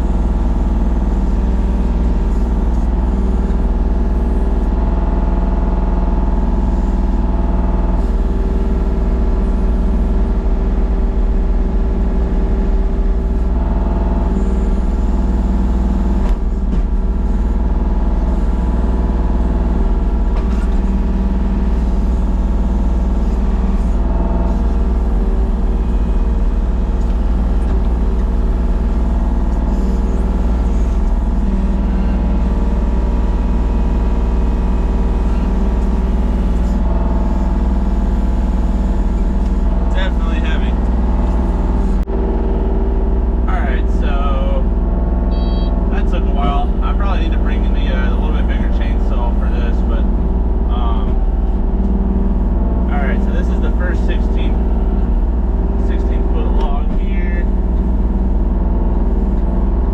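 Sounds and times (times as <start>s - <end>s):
large engine droning: 0.0s - 59.9s.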